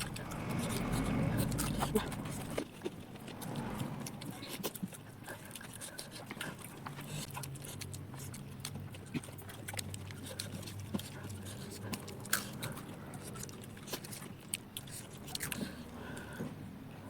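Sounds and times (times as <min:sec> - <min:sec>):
chewing with crunches: 0:00.0 - 0:17.0.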